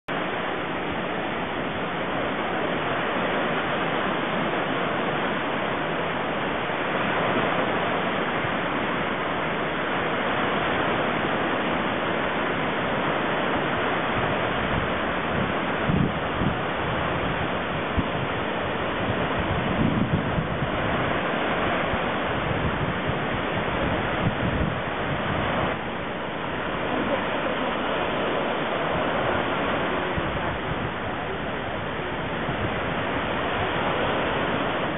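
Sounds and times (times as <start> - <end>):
waves breaking on beach: 0.1 - 34.9
wind on microphone: 0.1 - 34.9.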